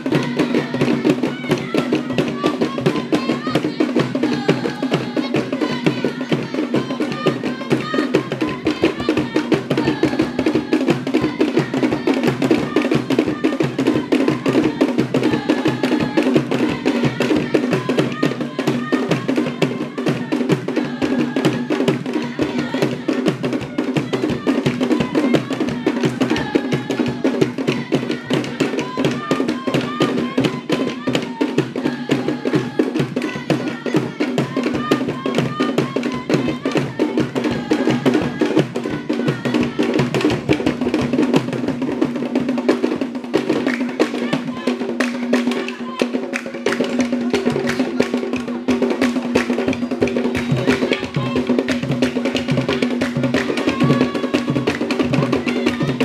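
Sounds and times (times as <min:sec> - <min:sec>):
hand drum ensemble: 0:00.0 - 0:56.0
voices: 0:00.0 - 0:56.0.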